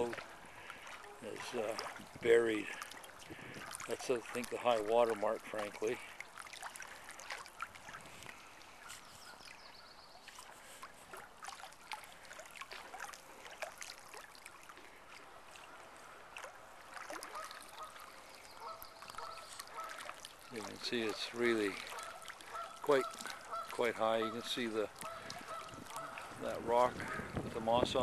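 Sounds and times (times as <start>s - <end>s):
distant waterfowl calling: 0.0s - 27.6s
light ticks and splashes: 0.0s - 28.0s.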